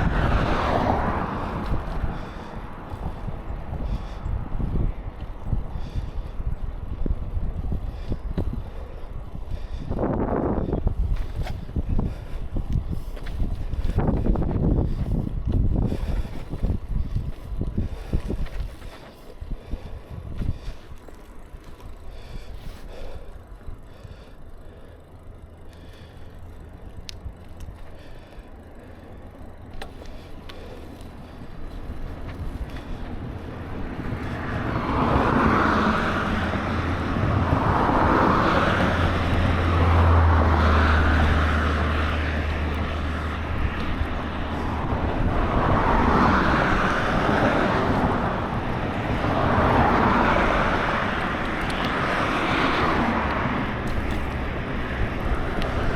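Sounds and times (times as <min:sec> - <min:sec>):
passing vehicle engine drone: 0:00.0 - 0:12.3, 0:21.8 - 0:55.9
wind and road noise: 0:00.0 - 0:55.9.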